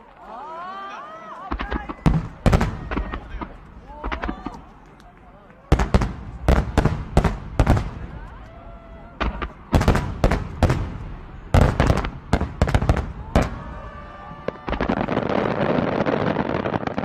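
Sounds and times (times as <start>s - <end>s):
fireworks bursting bangs: 1.4s - 17.0s.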